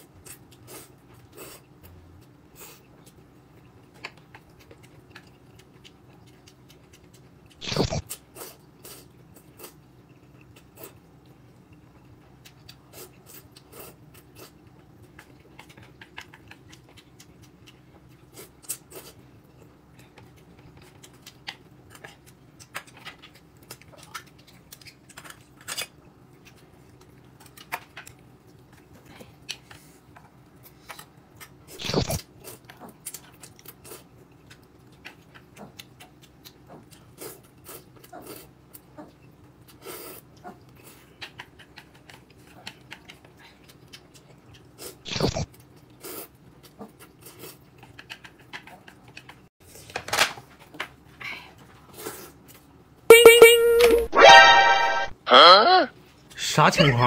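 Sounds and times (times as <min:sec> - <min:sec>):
person chewing: 0:00.0 - 0:49.5.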